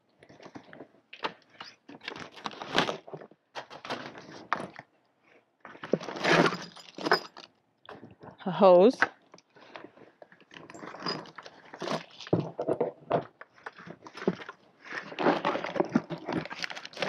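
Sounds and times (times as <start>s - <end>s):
rummaging in plastic bucket: 0.2s - 4.9s, 5.7s - 8.4s, 9.5s - 17.0s.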